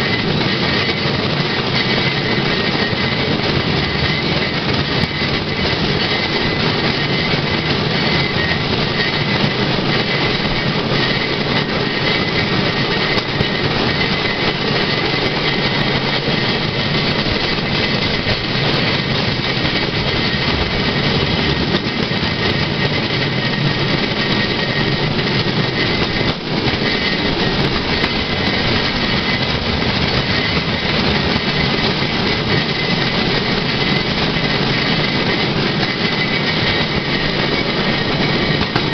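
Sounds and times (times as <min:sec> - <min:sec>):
wheels rumbling on rails: 0:00.0 - 0:38.9.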